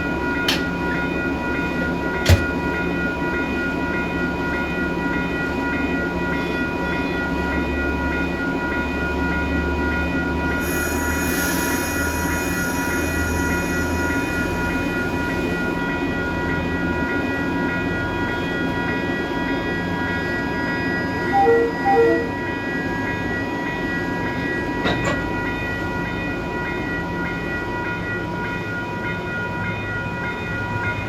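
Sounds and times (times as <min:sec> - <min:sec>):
train rumbling on tracks: 0:00.0 - 0:31.0.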